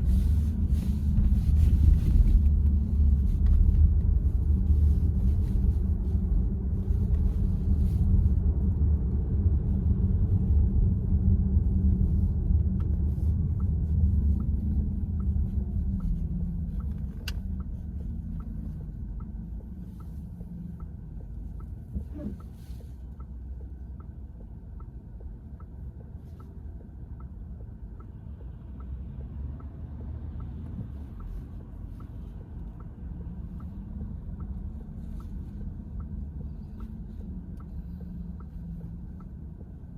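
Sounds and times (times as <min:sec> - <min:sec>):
road and tyre rumble: 0:00.0 - 0:39.9
turn signal ticking: 0:00.0 - 0:39.9.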